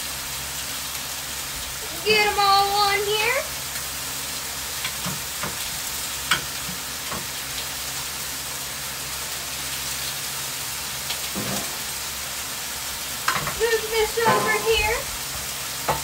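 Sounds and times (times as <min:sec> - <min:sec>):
chicken sizzling on griddle: 0:00.0 - 0:16.0.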